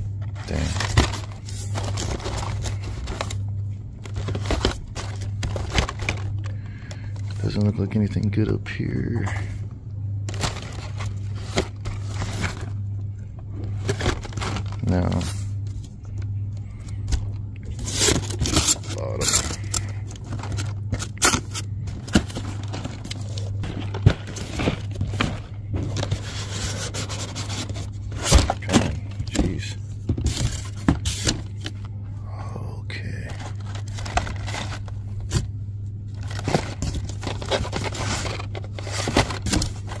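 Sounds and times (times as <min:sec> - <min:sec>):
steady low hum: 0:00.0 - 0:40.0
plastic packaging scraping and clacking: 0:00.2 - 0:03.4, 0:04.0 - 0:07.6, 0:10.3 - 0:12.8, 0:13.6 - 0:16.2, 0:17.1 - 0:31.8, 0:33.4 - 0:35.5, 0:36.2 - 0:40.0.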